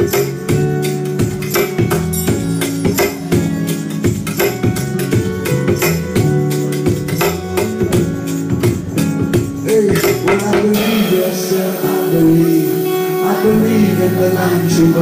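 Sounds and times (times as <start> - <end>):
acoustic guitar: 0.0 - 15.0
percussion beat: 0.0 - 15.0
upright bass: 0.0 - 15.0.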